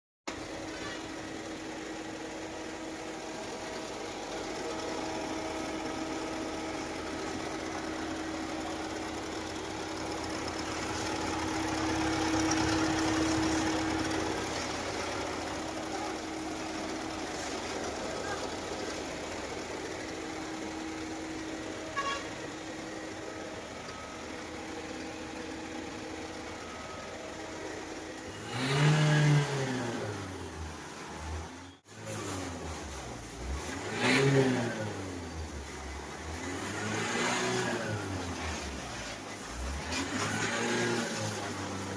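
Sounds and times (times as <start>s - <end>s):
car engine idling and revving: 0.3s - 41.9s.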